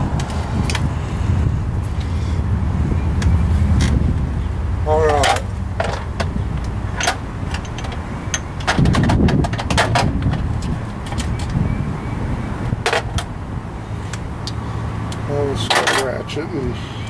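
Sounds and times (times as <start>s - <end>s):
heavy low rumble: 0.0s - 15.6s.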